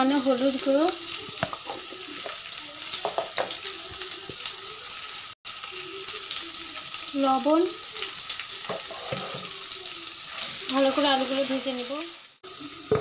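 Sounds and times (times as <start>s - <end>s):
potatoes frying in hot oil: 0.0s - 13.0s.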